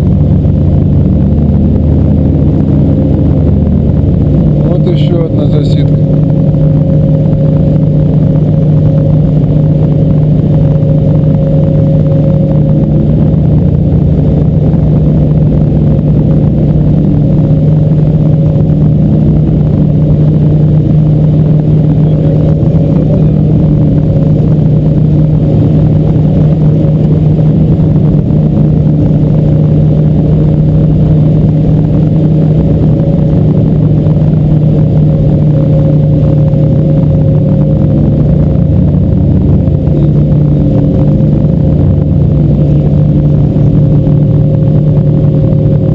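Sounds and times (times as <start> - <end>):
boat motor droning: 0.0 - 45.9.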